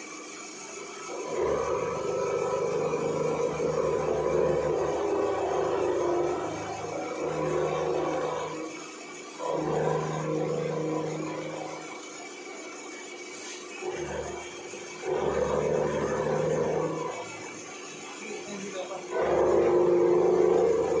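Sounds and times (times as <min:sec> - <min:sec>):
end mill cutting steel: 0:00.0 - 0:21.0
spindle whine: 0:00.0 - 0:21.0.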